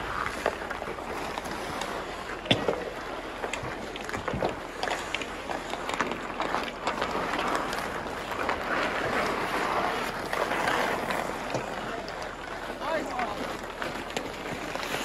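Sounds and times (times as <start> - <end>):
skates scraping on ice: 0.0 - 15.0
hockey sticks clacking: 0.1 - 15.0.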